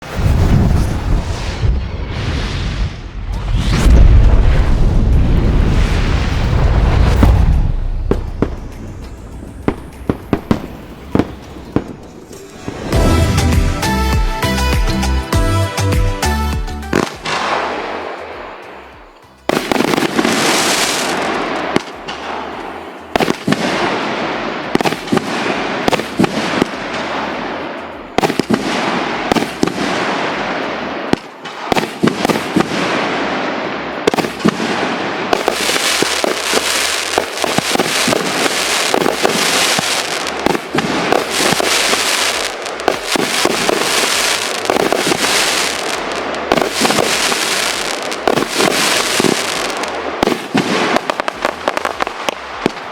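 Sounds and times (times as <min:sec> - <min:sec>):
fireworks barrage with crackle: 0:00.0 - 0:14.3, 0:16.9 - 0:52.9.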